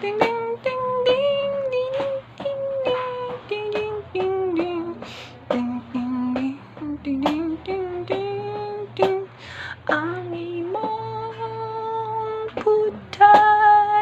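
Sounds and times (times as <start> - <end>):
sharp hand taps: 0.0 - 11.6, 12.4 - 13.9
man singing and humming: 0.0 - 14.0.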